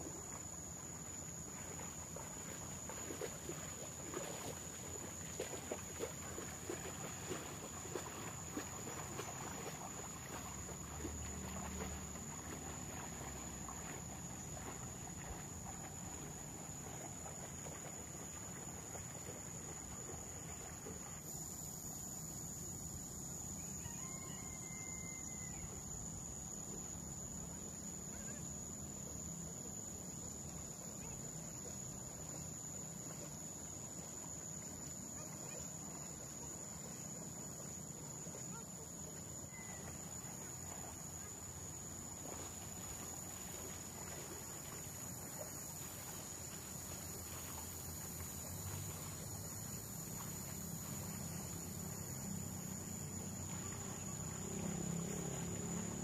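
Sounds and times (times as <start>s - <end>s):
insects trilling: 0.0s - 56.0s
water and mud splashing: 0.0s - 56.0s.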